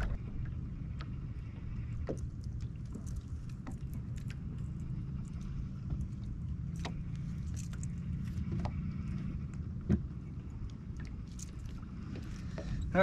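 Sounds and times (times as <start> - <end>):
low boat rumble: 0.0 - 13.0.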